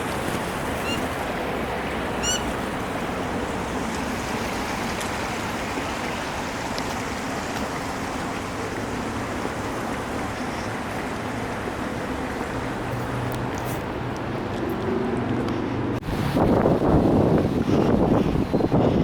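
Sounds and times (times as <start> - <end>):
flowing water rushing: 0.0 - 18.4.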